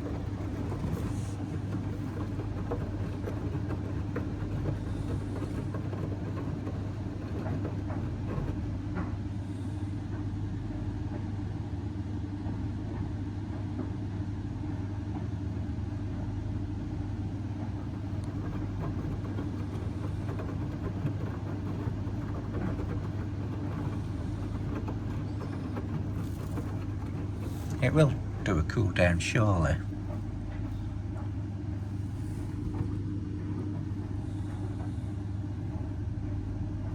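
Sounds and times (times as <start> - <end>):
washing machine hum and rumble: 0.0 - 36.9.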